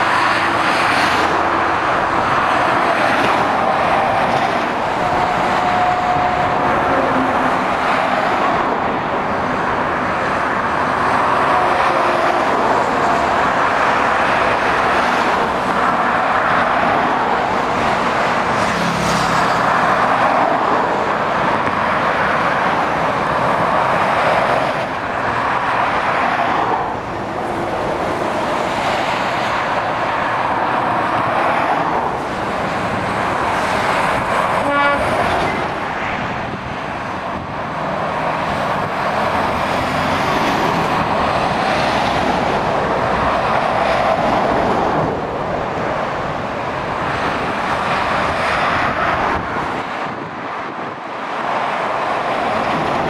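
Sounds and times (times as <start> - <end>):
motorway traffic roar: 0.0 - 53.0.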